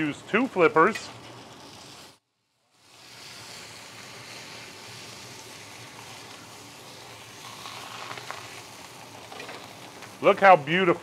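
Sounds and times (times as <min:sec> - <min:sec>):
fish sizzling on a griddle: 0:00.3 - 0:10.9.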